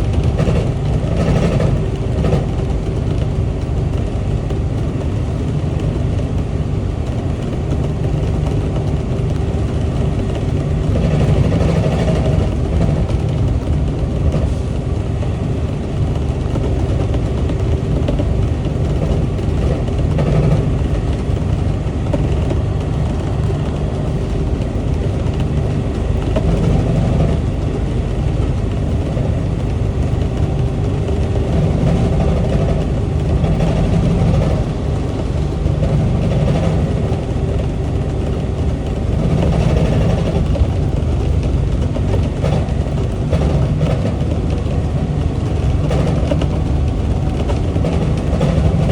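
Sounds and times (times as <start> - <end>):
train rumbling on guideway: 0.0 - 48.9.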